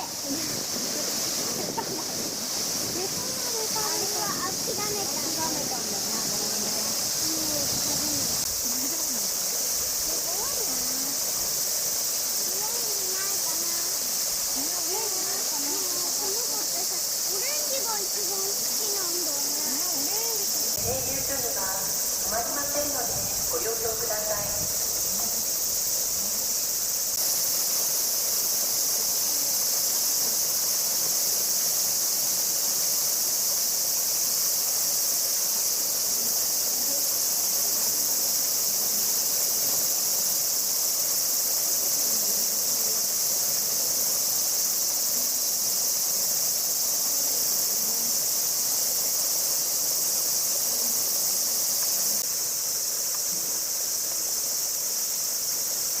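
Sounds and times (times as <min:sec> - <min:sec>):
cicadas droning: 0:00.0 - 0:56.0.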